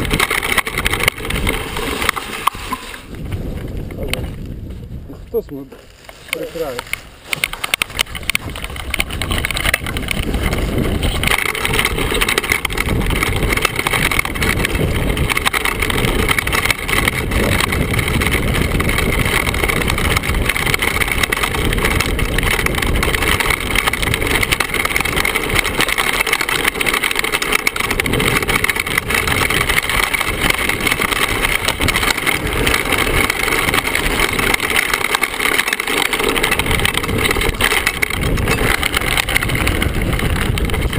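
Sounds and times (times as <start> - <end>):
bike frame and chain rattling: 0.0 - 4.8, 5.9 - 40.9
bike tyres rumbling on stones: 0.0 - 40.9.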